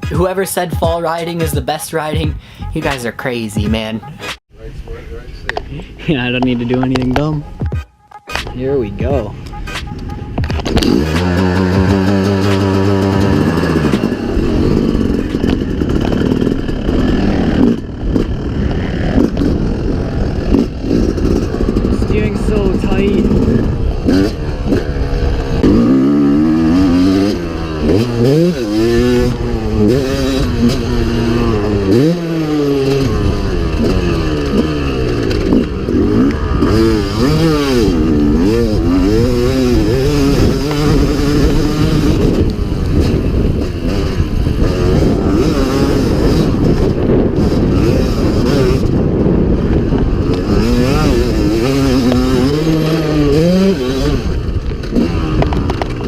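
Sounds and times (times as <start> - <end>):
dirt bike engine revving: 6.2 - 56.0.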